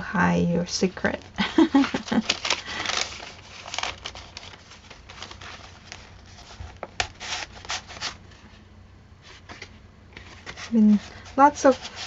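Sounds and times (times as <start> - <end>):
paper pages rustling: 1.0 - 8.6, 9.2 - 12.0.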